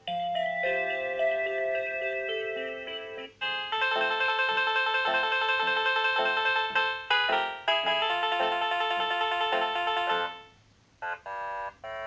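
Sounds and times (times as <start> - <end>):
phone ringtone electronic melody: 0.0 - 12.0.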